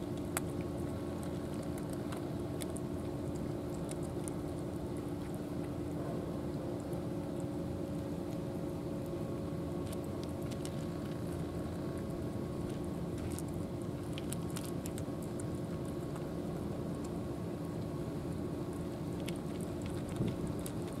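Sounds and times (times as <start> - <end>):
cats chewing dry food: 0.0 - 21.0
low mechanical hum: 0.0 - 21.0.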